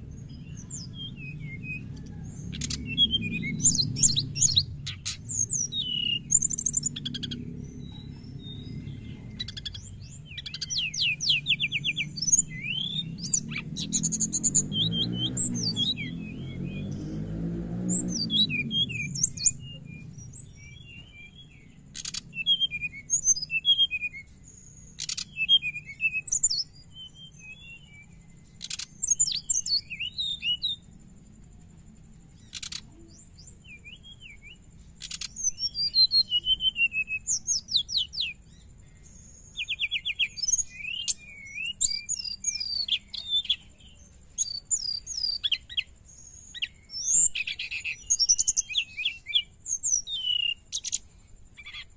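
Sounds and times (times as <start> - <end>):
bird twittering chirps and trills: 0.0 - 51.9.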